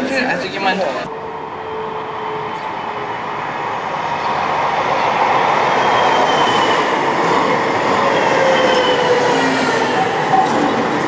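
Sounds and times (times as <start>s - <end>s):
tram wheels on rails: 1.2s - 11.0s.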